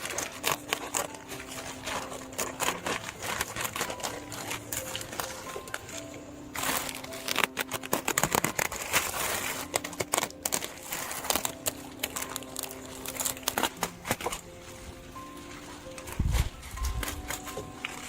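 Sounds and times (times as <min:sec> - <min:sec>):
crinkling handling noise: 0:00.0 - 0:18.0.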